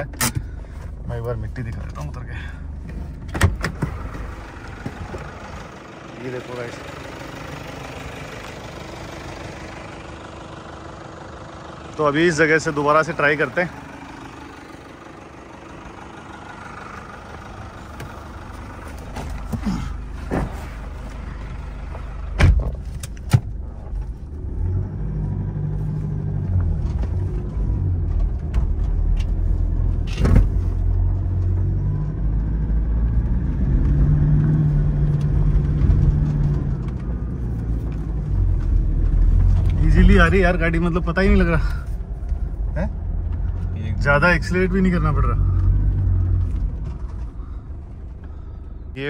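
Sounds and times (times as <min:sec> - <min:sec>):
car engine droning in loose soil: 0:00.0 - 0:49.0.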